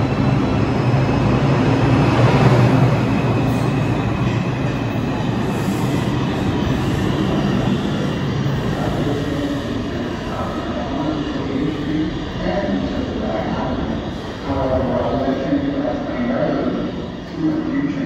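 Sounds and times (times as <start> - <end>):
subway train running on track: 0.0 - 18.0.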